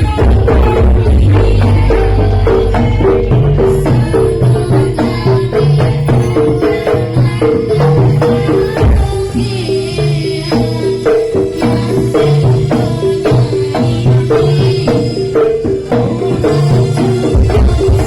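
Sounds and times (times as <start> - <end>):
drum strokes: 0.0 - 18.0
gamelan metal percussion melody: 0.0 - 18.0.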